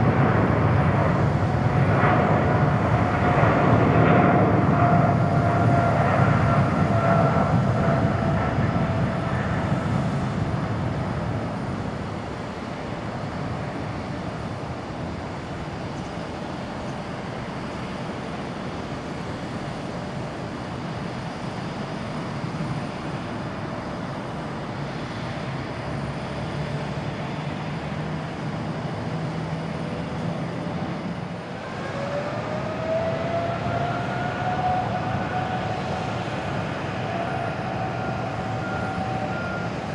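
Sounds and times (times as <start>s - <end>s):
jet airliner taking off: 0.0s - 39.9s
jet engines spooling up: 0.0s - 39.9s.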